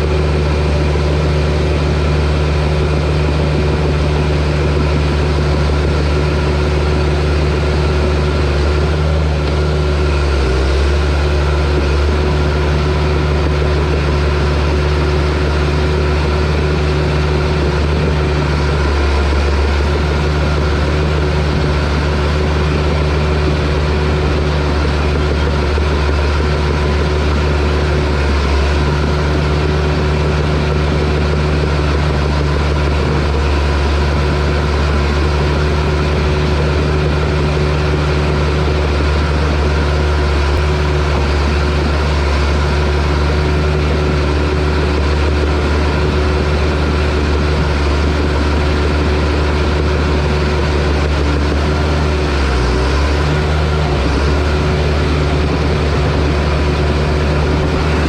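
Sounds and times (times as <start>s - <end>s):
bulldozer diesel engine droning: 0.0s - 58.0s.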